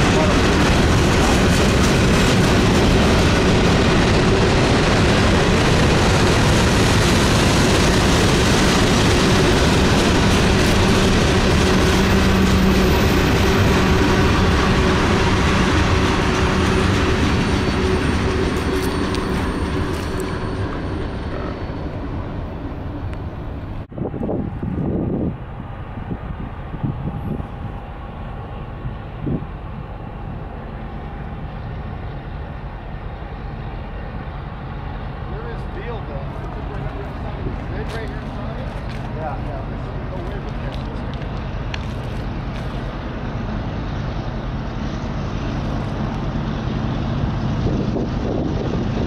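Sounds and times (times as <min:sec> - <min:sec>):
freight train rolling past: 0:00.0 - 0:49.0.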